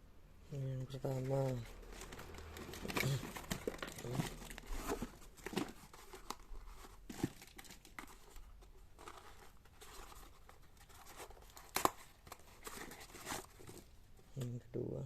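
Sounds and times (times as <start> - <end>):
packaging crinkling and tearing: 1.0 - 14.0.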